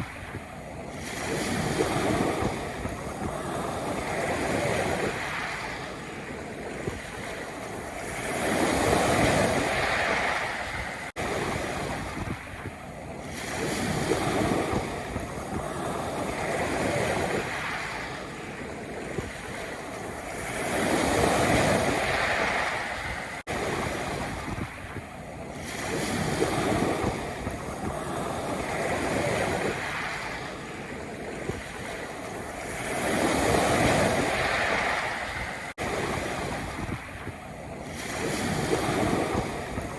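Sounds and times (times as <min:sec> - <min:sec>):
waves breaking on pebble beach: 0:00.0 - 0:39.9.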